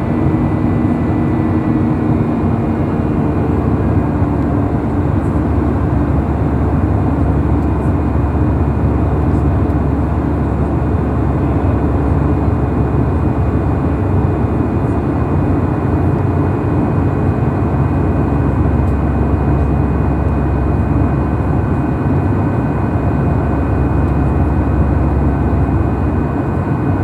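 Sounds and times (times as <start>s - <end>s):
jet cabin low rumble: 0.0s - 27.0s.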